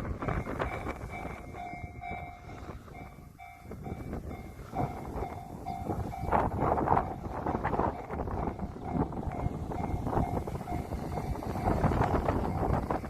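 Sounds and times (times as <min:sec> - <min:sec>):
level-crossing warning bell dinging: 0:00.0 - 0:13.0.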